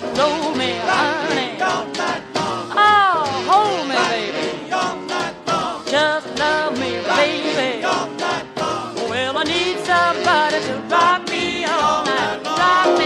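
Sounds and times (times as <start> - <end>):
rock and roll song: 0.0 - 13.0.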